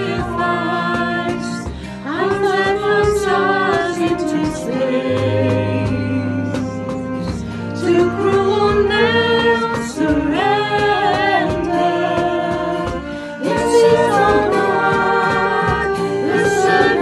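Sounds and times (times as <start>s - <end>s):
cajon: 0.0s - 17.0s
flutes: 0.0s - 17.0s
people singing a hymn: 0.0s - 17.0s
piano: 0.0s - 17.0s.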